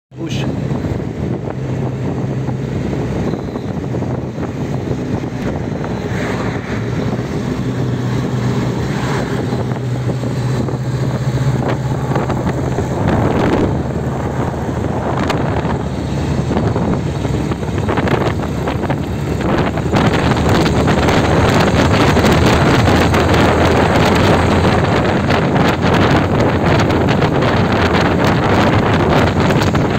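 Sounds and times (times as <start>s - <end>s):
car engine humming: 0.2s - 29.9s
wind rush on microphone: 0.2s - 29.9s.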